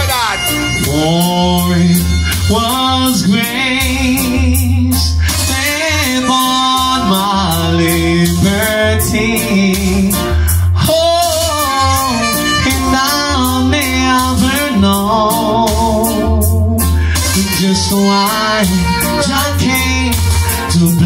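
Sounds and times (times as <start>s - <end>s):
backing music with bass line: 0.0s - 21.0s
man singing into a microphone: 0.0s - 21.0s.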